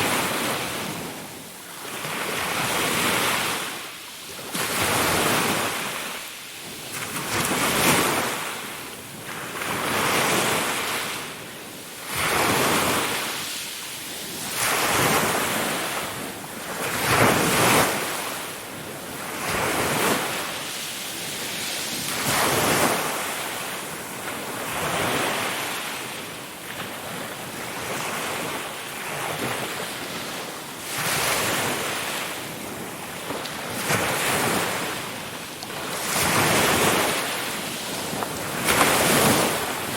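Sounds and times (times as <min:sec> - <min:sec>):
ocean waves breaking on shore: 0:00.0 - 0:39.9
wind-like hiss: 0:00.0 - 0:39.9.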